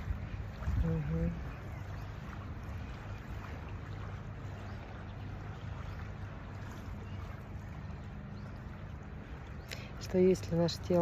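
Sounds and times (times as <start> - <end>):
sea washing: 0.0 - 11.0
wind buffeting microphone: 0.0 - 11.0.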